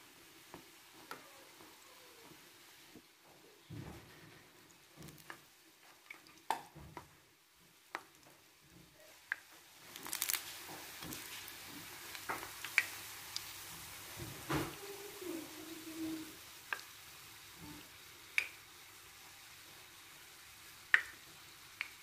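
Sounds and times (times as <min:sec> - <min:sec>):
dough sizzling in hot oil: 0:00.0 - 0:03.2, 0:04.5 - 0:22.0.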